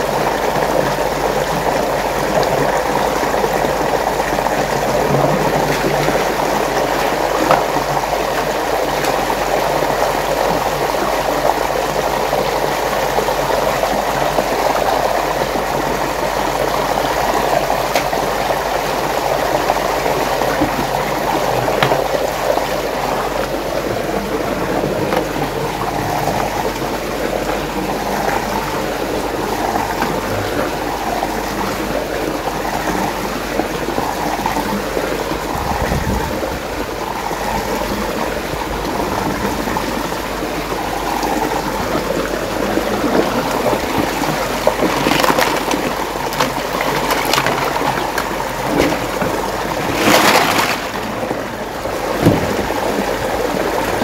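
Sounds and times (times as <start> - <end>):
water churning in whirlpool: 0.0 - 54.0.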